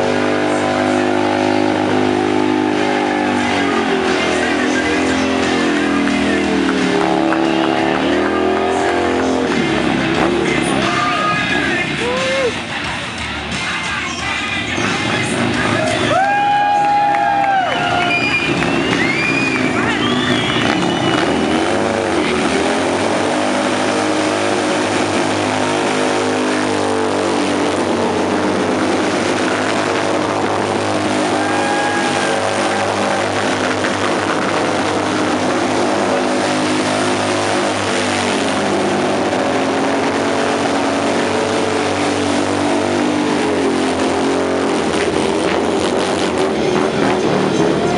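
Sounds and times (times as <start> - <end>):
motorcycle engine at high revs: 0.0 - 11.9, 18.3 - 47.9.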